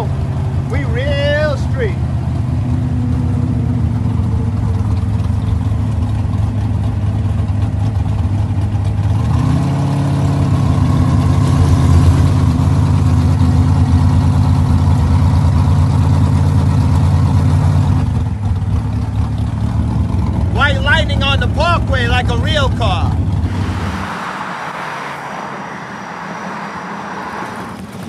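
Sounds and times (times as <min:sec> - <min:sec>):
car engine running: 0:00.0 - 0:28.0.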